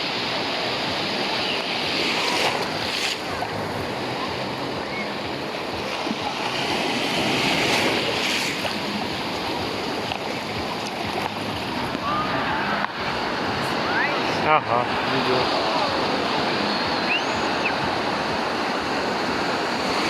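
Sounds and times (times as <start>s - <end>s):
small waves washing onto shore: 0.0s - 20.0s.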